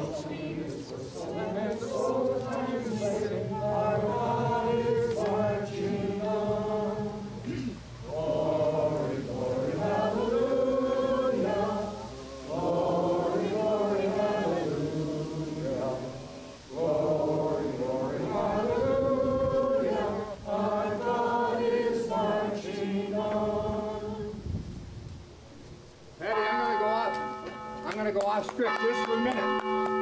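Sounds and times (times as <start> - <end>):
crowd singing together: 0.0 - 24.5.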